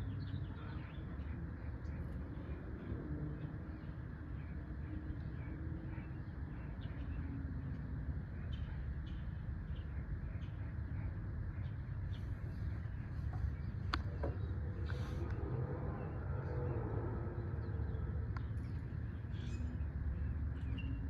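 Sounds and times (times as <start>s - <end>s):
low rumbling noise: 0.0s - 21.0s
small birds chirping: 0.0s - 21.0s.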